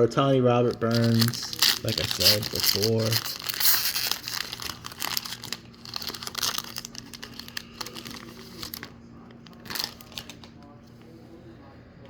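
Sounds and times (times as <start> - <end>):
foil wrapper crinkling and tearing: 0.6 - 10.5.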